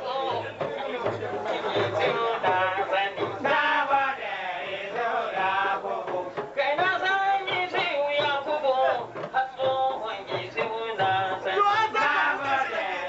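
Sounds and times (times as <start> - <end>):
men singing chant-like song: 0.0 - 13.0.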